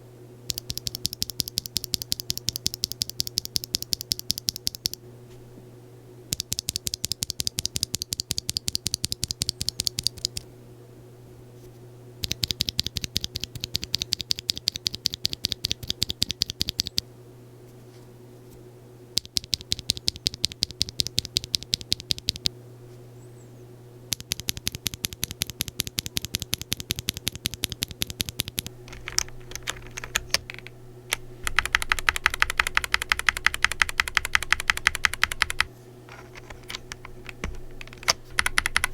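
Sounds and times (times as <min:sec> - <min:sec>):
faint steady hum: 0:00.0 - 0:38.9
mechanical keyboard typing: 0:00.5 - 0:05.0, 0:06.3 - 0:10.4, 0:12.2 - 0:17.0, 0:19.2 - 0:22.5, 0:24.1 - 0:38.9.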